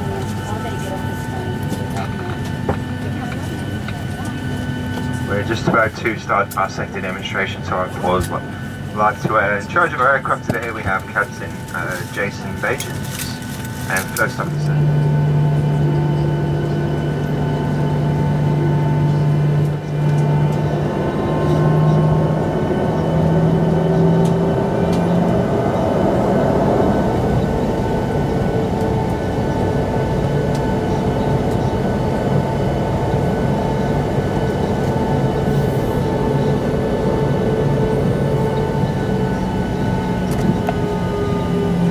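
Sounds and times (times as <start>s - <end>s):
aircraft cabin hum: 0.0s - 41.9s
faint whine: 0.0s - 41.9s
low drone: 0.0s - 41.9s.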